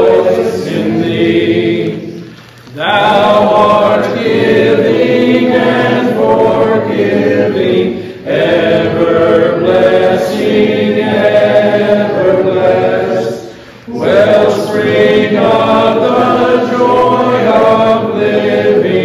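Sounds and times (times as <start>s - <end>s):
congregation singing a hymn: 0.0s - 19.0s.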